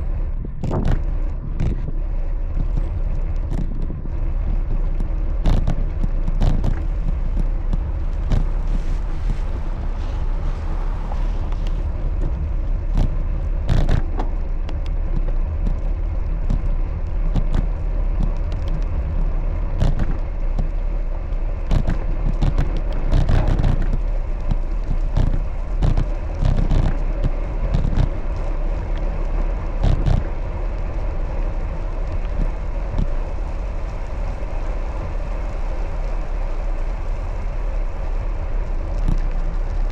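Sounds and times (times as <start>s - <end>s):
bicycle road and wind rumble: 0.0s - 39.9s
bicycle clicks and rattles: 0.1s - 39.9s.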